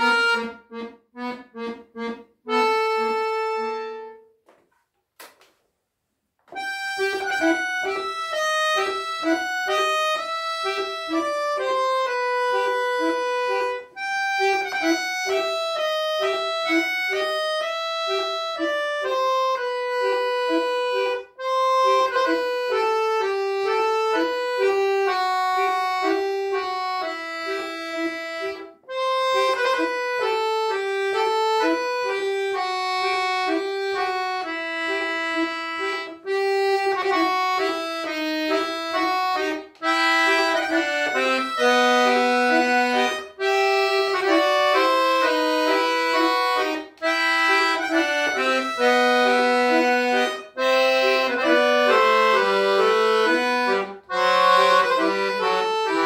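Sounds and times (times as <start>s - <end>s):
solo accordion playing: 0.0s - 4.4s, 6.5s - 56.0s.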